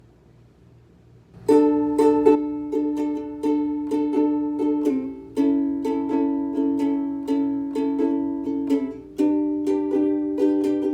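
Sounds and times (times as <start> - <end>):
chords strummed on small string instrument: 1.4 - 10.9.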